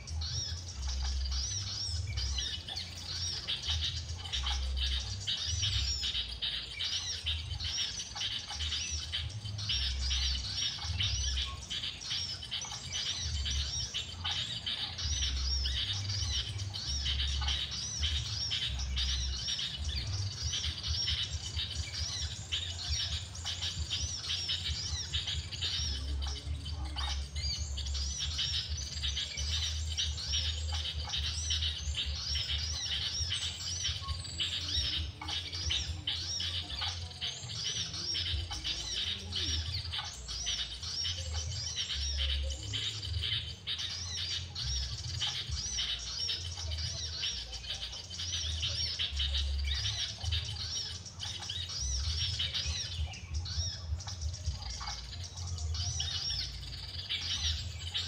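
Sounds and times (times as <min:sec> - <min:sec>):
small bird chirping: 0:00.0 - 0:58.0.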